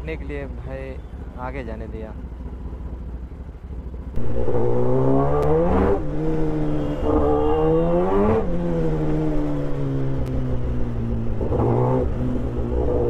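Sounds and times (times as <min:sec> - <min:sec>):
motorcycle engine accelerating: 0:02.2 - 0:13.0.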